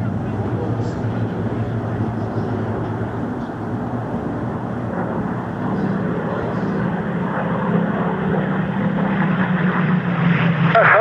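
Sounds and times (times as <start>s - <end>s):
piston aircraft engines droning: 0.0s - 11.0s.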